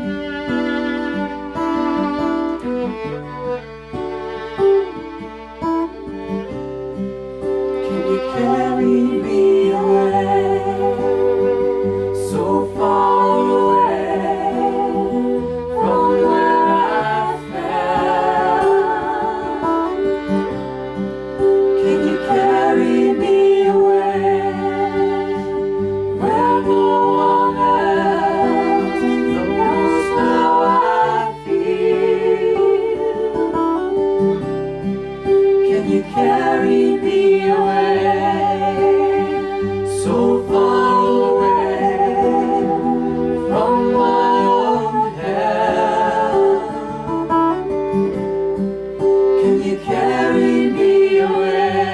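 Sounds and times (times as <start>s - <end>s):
fiddle melody with vibrato: 0.0s - 51.9s
folk-rock band playing: 0.0s - 51.9s.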